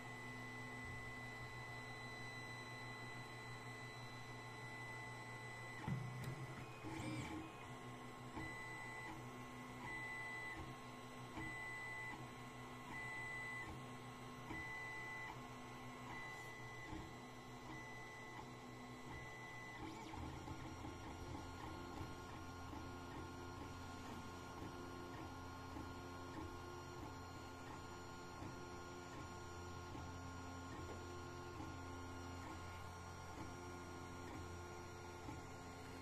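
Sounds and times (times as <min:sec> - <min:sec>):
printer whir: 0:00.0 - 0:36.0.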